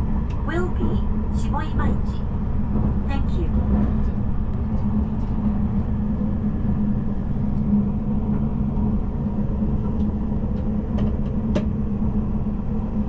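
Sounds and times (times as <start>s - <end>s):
train running rumble and hum: 0.0s - 13.0s.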